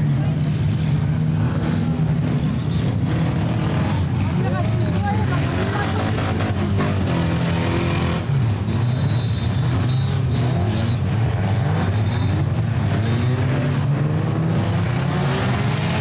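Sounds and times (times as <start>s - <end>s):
stock car engines revving: 0.0s - 16.0s.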